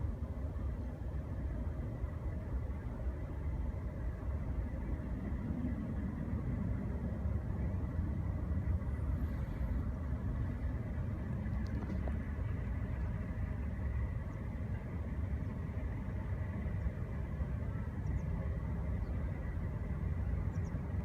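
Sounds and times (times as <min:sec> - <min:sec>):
faint high whine: 0:00.0 - 0:21.0
low engine rumble: 0:00.0 - 0:21.0.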